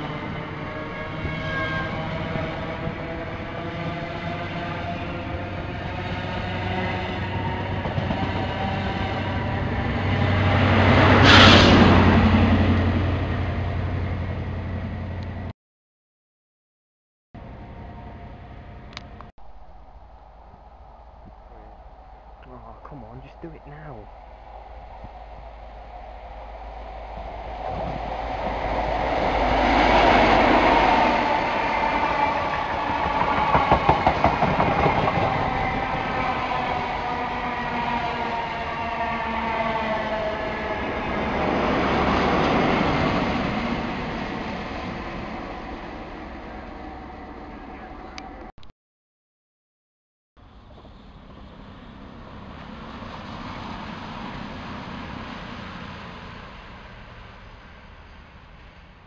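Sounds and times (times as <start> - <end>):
train passing with diesel drone: 0.0 - 15.5, 17.4 - 48.5, 50.4 - 59.0.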